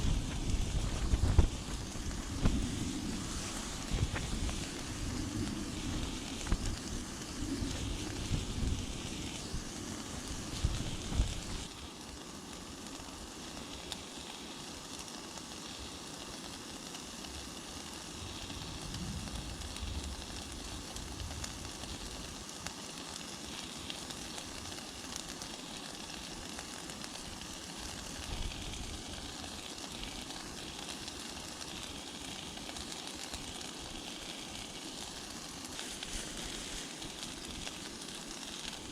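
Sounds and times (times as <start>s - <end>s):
food sizzling on camp stove: 0.0s - 38.9s.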